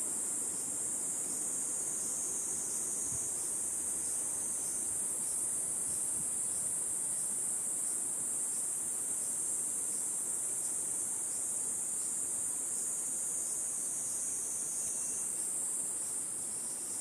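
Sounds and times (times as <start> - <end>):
cicadas shrilling: 0.0 - 17.0.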